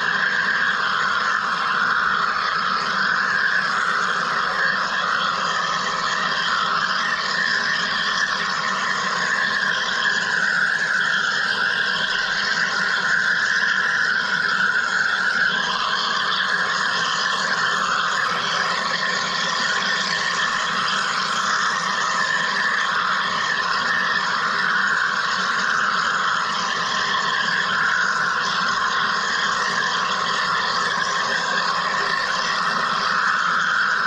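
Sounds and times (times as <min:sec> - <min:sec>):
machine running with steady hiss: 0:00.0 - 0:34.0.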